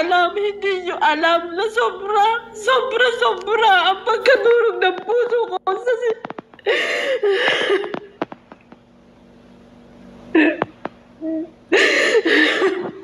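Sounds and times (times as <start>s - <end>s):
woman sobbing: 0.0s - 8.2s, 10.3s - 13.0s.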